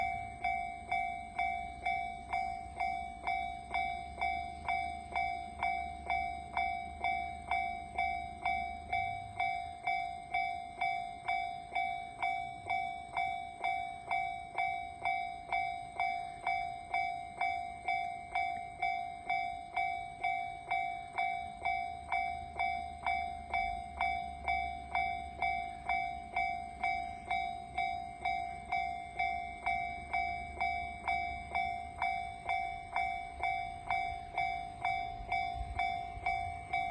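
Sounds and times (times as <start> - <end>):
level crossing alarm bell: 0.0 - 36.9.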